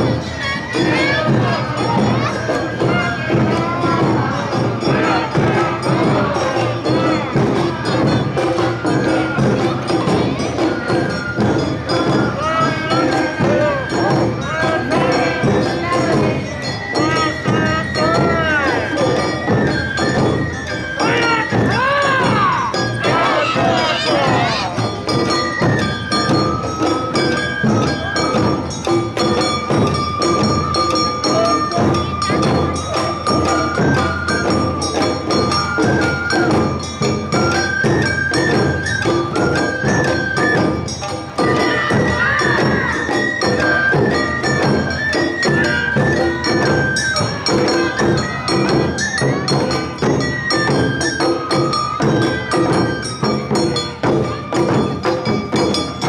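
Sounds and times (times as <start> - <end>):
high flute melody: 0.0 - 56.0
taiko drums beating: 0.0 - 56.0.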